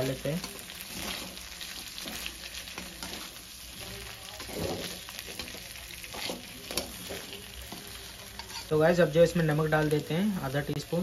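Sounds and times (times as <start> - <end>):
metal spatula scraping a pan: 0.0 - 9.4
oil sizzling: 0.0 - 11.0.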